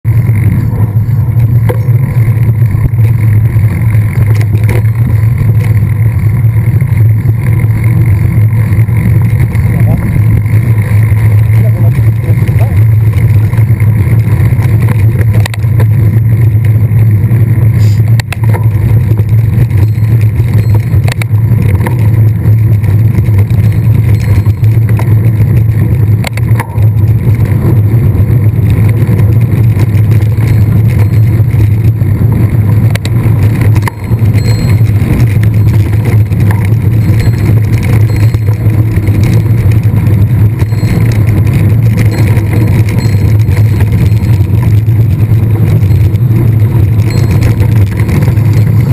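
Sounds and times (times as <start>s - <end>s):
mountain bike ride rumble: 0.0s - 48.9s.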